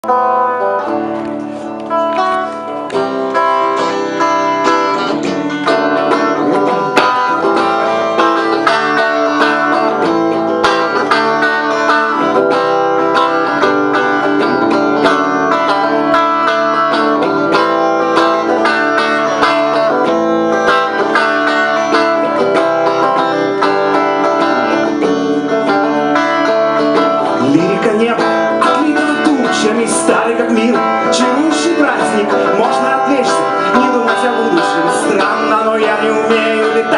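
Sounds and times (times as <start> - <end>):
fast picked string instrument: 0.0 - 36.9.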